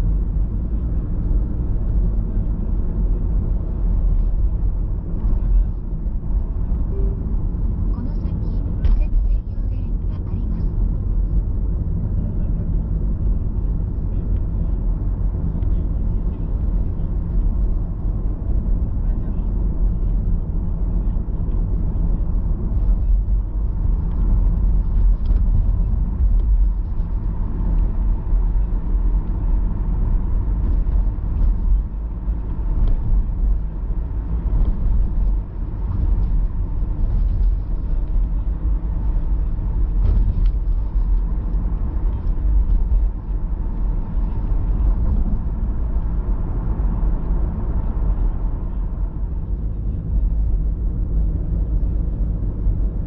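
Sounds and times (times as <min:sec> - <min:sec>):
car engine and tyres rumbling: 0:00.0 - 0:53.0.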